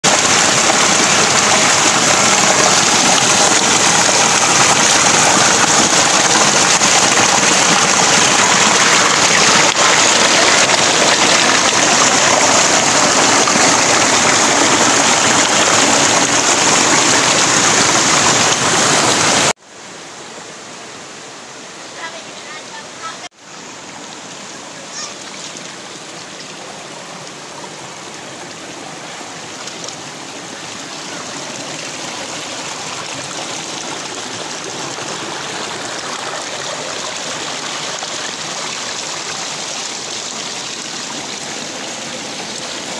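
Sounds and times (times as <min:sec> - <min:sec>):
shallow rapids rushing: 0:00.0 - 0:19.6, 0:21.4 - 0:42.9
river water rushing over boulders: 0:00.0 - 0:42.9.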